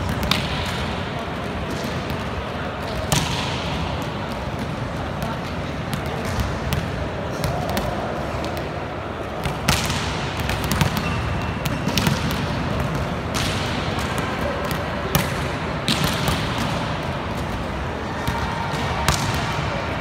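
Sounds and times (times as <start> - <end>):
sports hall background noise: 0.0 - 20.0.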